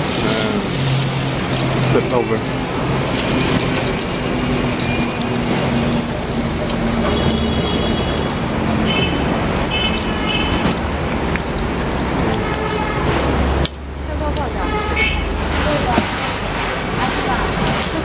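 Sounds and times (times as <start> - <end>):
busy street noise: 0.0 - 18.0.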